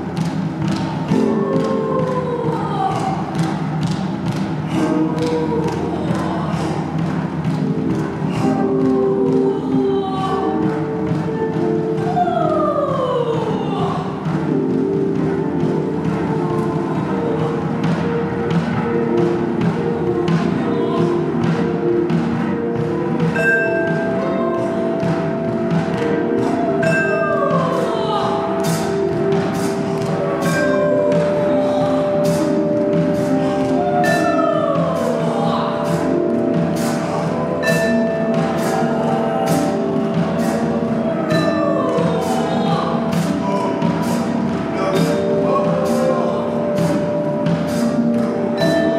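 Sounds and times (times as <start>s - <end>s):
cello: 0.0s - 48.9s
harp: 0.0s - 48.9s
soft percussive hits: 0.0s - 48.9s
vibraphone: 0.0s - 48.9s
voices: 0.0s - 48.9s.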